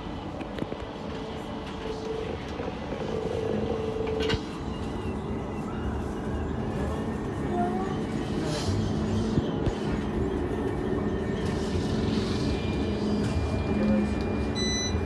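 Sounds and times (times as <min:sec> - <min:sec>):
tram rumble and hum: 0:00.0 - 0:15.0.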